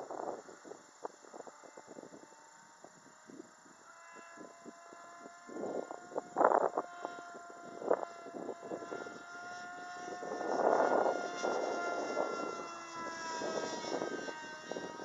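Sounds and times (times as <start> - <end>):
electric model airplane motor whining: 0.0 - 15.0
wind buffeting microphone: 0.0 - 15.0.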